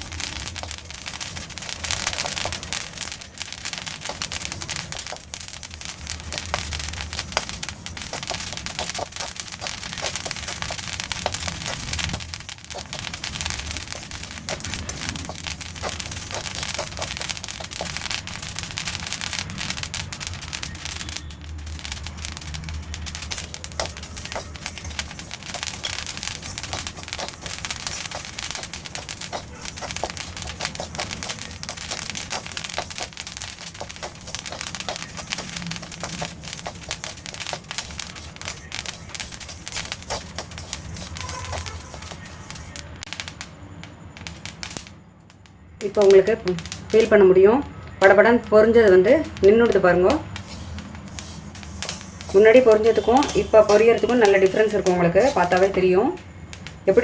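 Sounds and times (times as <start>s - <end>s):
sesame seeds popping in a pan: 0.0s - 57.0s.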